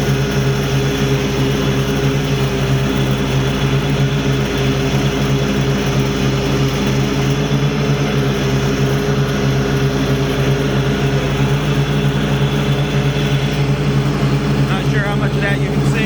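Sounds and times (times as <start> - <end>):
lawn mower engine droning: 0.0 - 16.0.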